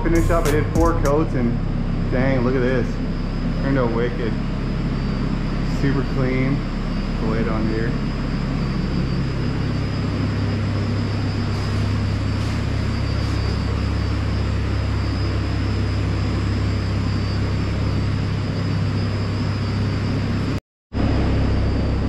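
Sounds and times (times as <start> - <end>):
machine drone with low hum: 0.0 - 22.0.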